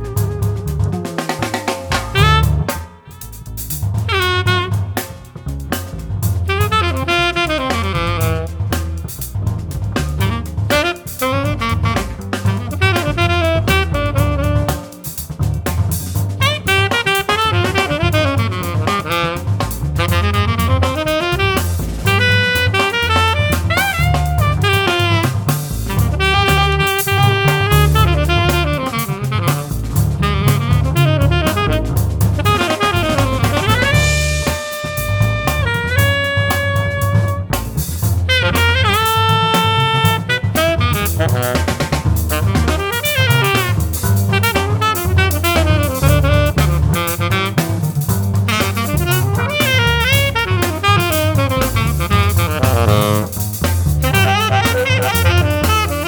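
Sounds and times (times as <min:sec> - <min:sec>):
drum kit: 0:00.0 - 0:56.0
jazz saxophone playing: 0:00.0 - 0:56.0.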